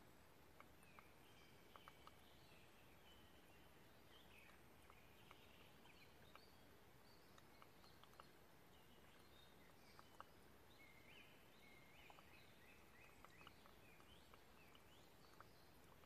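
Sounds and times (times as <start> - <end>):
faint steady hiss: 0.0 - 16.0
faint clicks: 0.4 - 16.0
faint high chirps: 0.7 - 16.0.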